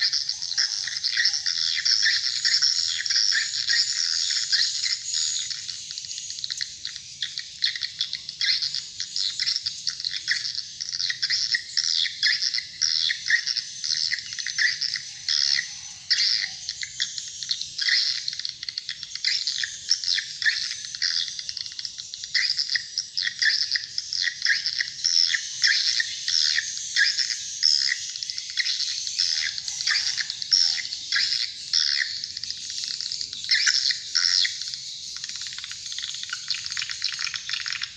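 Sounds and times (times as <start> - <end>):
recorded bird chirps over speakers: 0.0 - 37.9.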